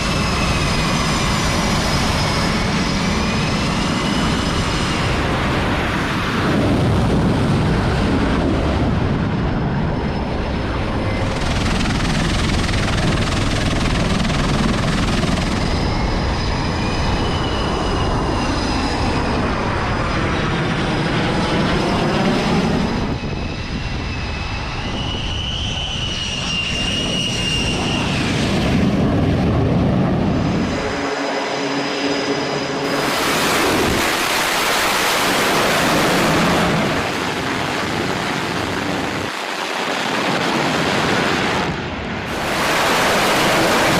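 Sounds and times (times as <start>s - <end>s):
jet engines roaring with turbine whine: 0.0s - 43.9s.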